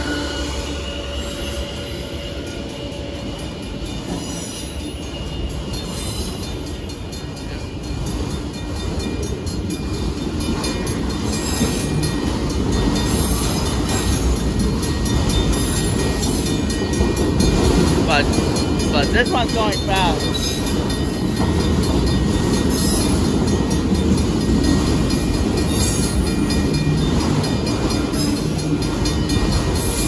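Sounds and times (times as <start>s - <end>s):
freight train rumbling past: 0.0s - 30.0s.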